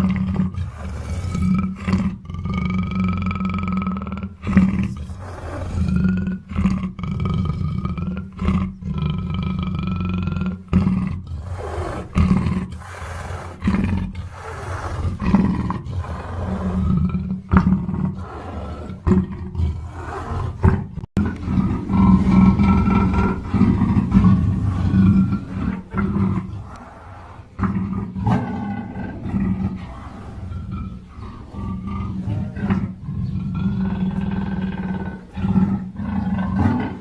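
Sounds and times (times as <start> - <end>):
panther growling roars: 0.0 - 37.0.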